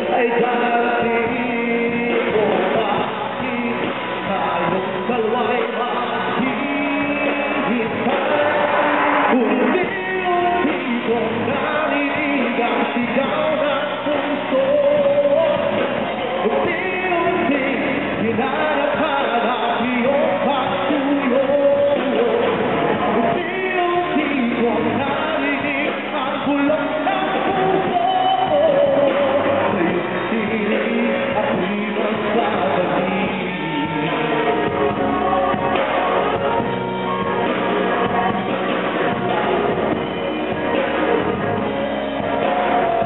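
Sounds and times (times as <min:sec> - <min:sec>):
lead vocalist singing: 0:00.0 - 0:43.0
live band playing: 0:00.0 - 0:43.0.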